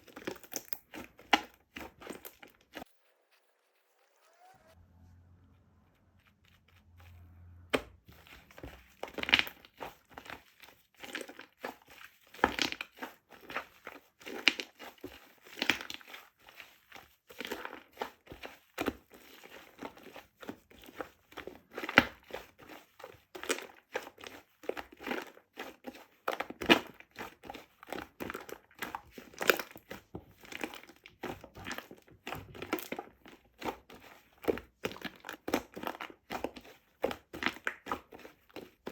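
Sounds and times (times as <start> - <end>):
crinkling and crackling: 0.0 - 38.9.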